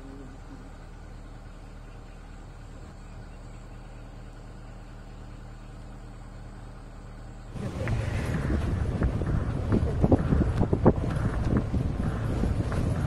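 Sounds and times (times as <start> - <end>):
jeep engine idling: 0.0 - 13.0.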